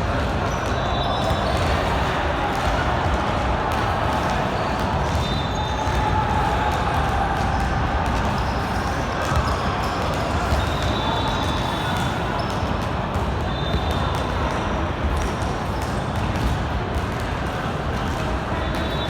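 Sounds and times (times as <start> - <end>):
background chatter: 0.0 - 19.0
basketball bouncing on court: 0.0 - 19.0.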